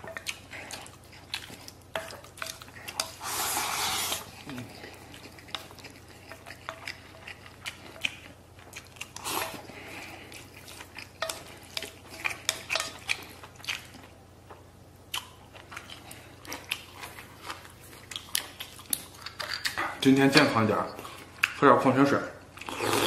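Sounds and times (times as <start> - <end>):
close chewing: 0.0 - 20.2.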